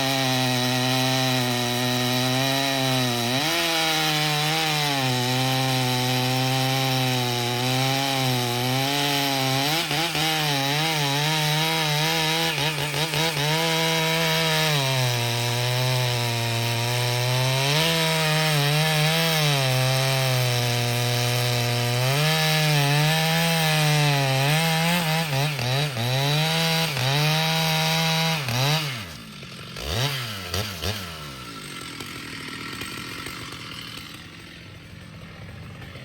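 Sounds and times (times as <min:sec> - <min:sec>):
chainsaw cutting wood: 0:00.0 - 0:36.0
chainsaw throttle blips: 0:00.0 - 0:36.0.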